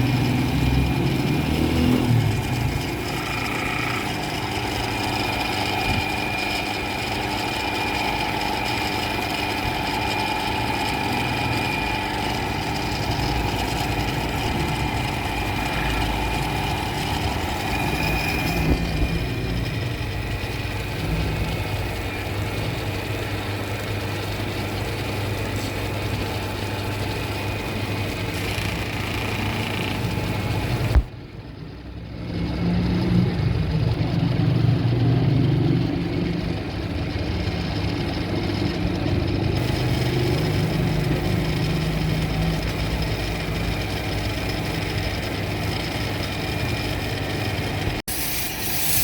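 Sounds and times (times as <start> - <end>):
machine motor humming: 0.0 - 31.2, 39.6 - 49.0.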